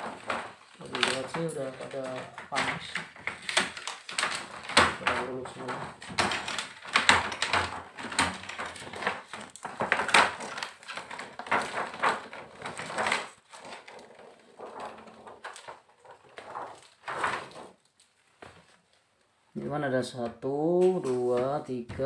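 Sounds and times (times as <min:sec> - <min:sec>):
plastic sheet crinkling: 0:00.0 - 0:19.3, 0:20.6 - 0:22.0.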